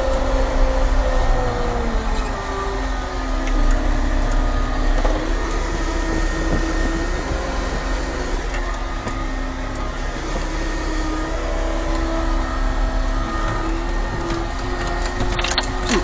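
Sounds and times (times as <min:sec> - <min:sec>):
diesel engine rumbling: 0:00.0 - 0:16.0
whining tones sliding in pitch: 0:00.0 - 0:16.0.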